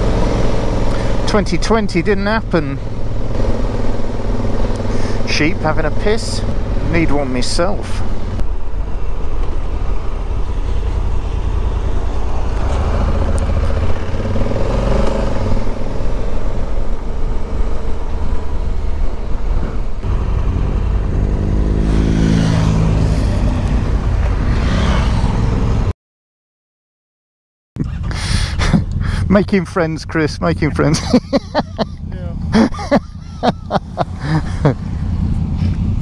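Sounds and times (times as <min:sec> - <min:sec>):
motorcycle engine: 0:00.0 - 0:25.9, 0:27.8 - 0:36.0
passing motorcycles: 0:00.0 - 0:25.9, 0:27.9 - 0:36.0.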